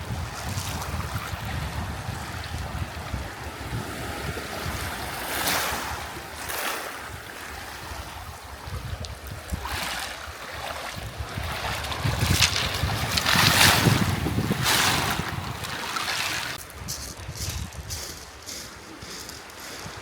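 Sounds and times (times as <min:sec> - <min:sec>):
waves washing on shore: 0:00.0 - 0:16.6
wind buffeting microphone: 0:00.0 - 0:20.0.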